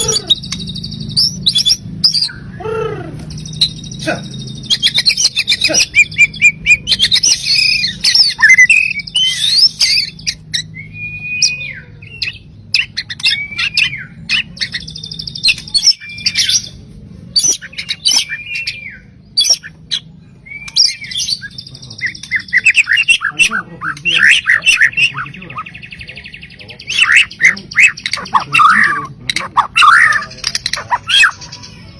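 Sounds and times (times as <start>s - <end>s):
songbird singing trills and whistles: 0.0s - 31.9s.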